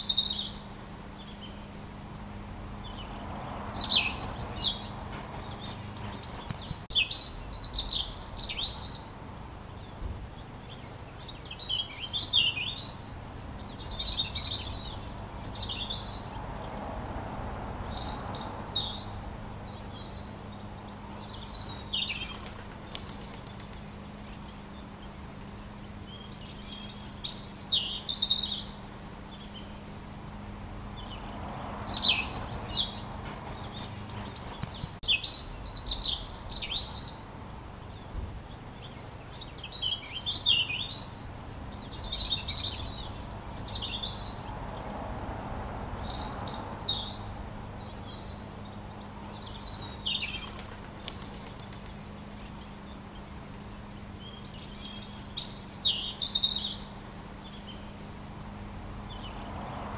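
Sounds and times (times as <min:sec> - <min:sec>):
birds chirping and whistling: 0:00.0 - 0:01.6, 0:02.8 - 0:09.2, 0:10.4 - 0:22.5, 0:25.8 - 0:29.8, 0:30.6 - 0:37.3, 0:37.9 - 0:45.0, 0:45.6 - 0:50.6, 0:51.3 - 0:58.0.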